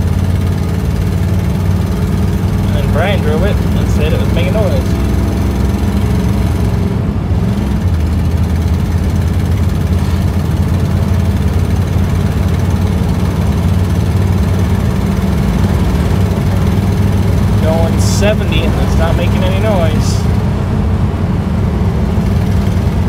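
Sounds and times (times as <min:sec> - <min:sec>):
car engine droning: 0:00.0 - 0:23.0
road noise: 0:00.0 - 0:23.0.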